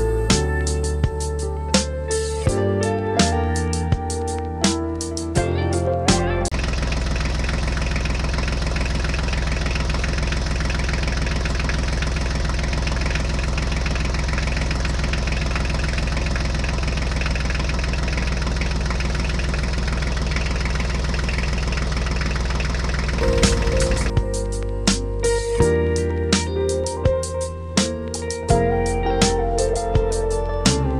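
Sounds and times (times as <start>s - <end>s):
diesel tractor engine idling: 0.0s - 30.9s.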